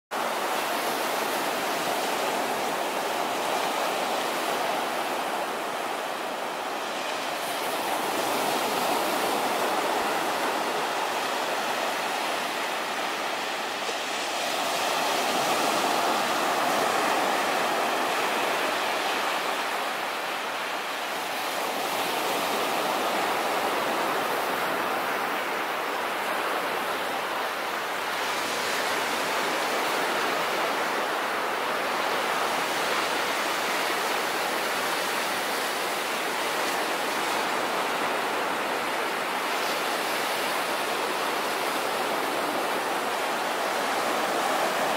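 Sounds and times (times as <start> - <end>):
waves washing up a beach: 0.1 - 44.9.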